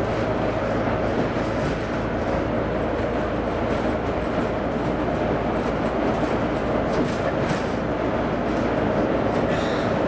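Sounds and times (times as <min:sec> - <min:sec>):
bus diesel engine droning: 0:00.0 - 0:10.0
road and tyre noise: 0:00.0 - 0:10.0.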